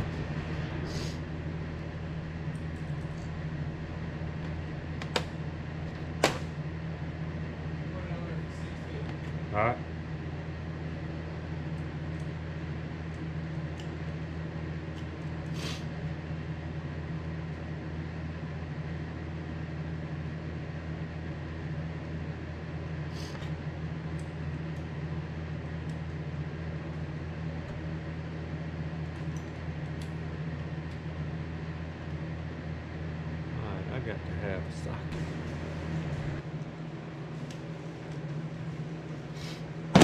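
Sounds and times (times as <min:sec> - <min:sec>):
low machine hum: 0:00.0 - 0:40.0.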